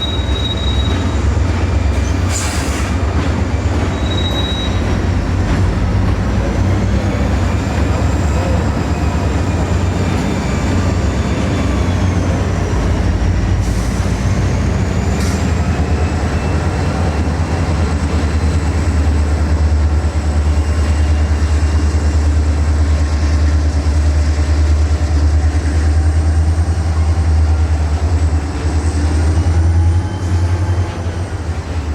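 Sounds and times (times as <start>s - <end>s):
train rumbling past: 0.0s - 31.9s.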